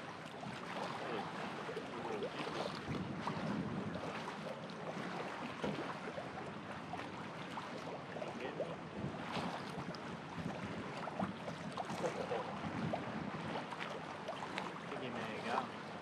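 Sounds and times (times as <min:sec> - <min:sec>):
water noise: 0:00.0 - 0:16.0
wind: 0:00.0 - 0:16.0.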